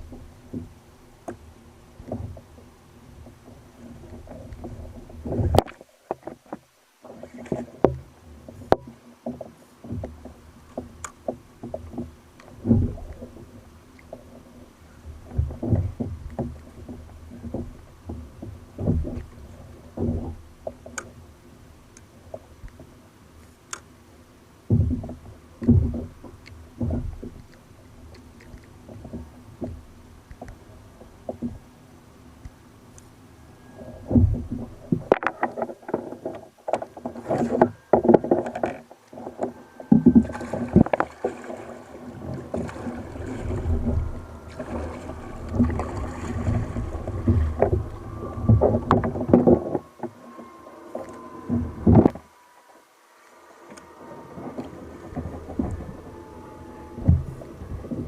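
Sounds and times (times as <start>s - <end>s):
water splashing against kayak hull: 0.0s - 58.0s.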